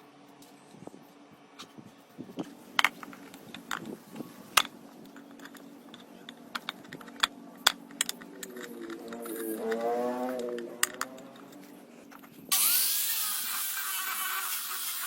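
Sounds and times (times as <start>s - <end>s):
faint steady hum: 0.0s - 12.6s.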